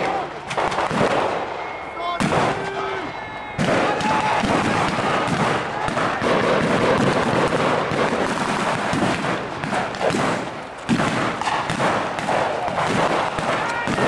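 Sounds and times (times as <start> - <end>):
distant blank gunshots crackling: 0.0 - 1.6, 2.2 - 2.6, 3.6 - 14.0.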